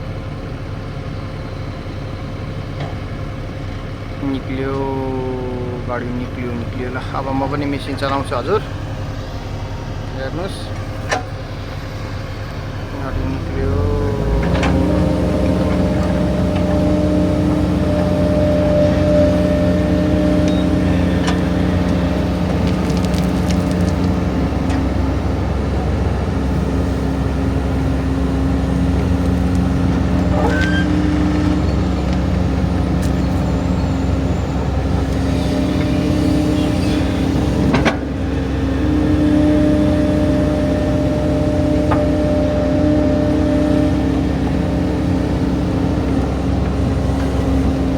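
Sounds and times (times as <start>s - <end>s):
large diesel engine running: 0.0s - 47.9s.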